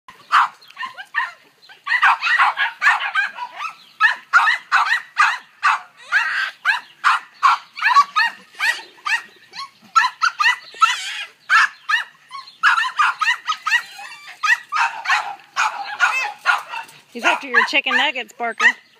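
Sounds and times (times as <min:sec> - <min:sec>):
dog yipping and whining: 0:00.3 - 0:18.8.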